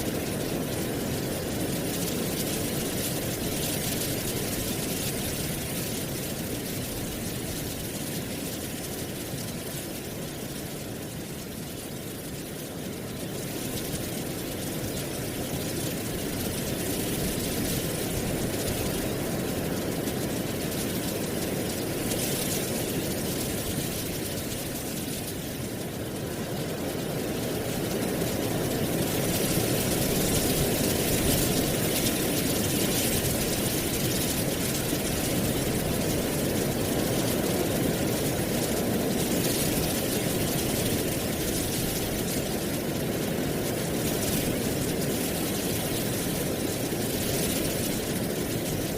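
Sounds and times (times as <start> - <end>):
wind rustling dry leaves: 0.0 - 48.9.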